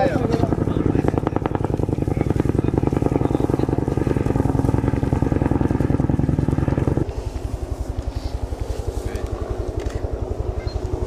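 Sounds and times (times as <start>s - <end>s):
pulsing motor drone: 0.0s - 11.0s.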